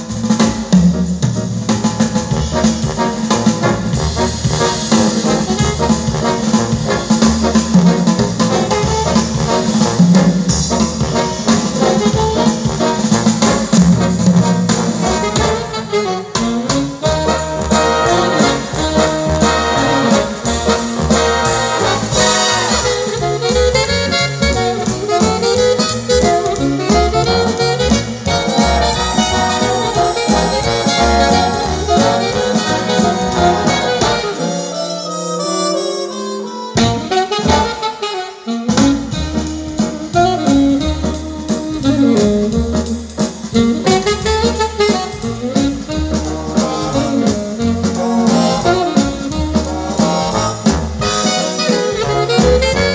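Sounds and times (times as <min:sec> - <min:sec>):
instrumental music with bass and drums: 0:00.0 - 0:52.9.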